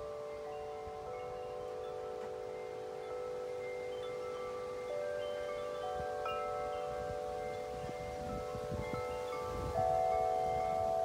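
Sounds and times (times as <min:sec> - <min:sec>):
low wind rumble: 0:00.0 - 0:11.0
wind chime ringing: 0:00.0 - 0:11.0.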